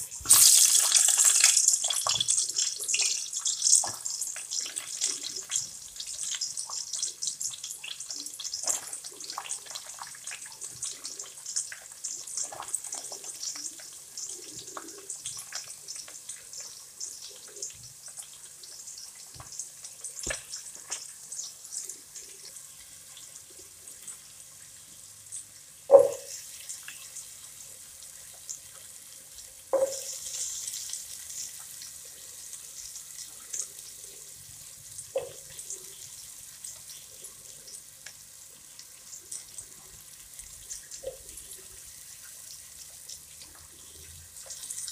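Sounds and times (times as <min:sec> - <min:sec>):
onions sizzling in hot oil: 0:00.0 - 0:44.9.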